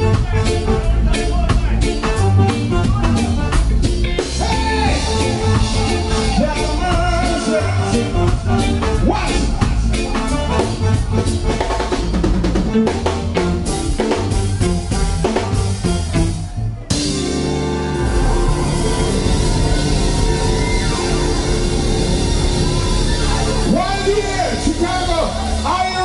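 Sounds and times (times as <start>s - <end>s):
drum kit beat: 0.0s - 26.0s
heavy bass line: 0.0s - 26.0s
reggae band playing: 0.0s - 26.0s.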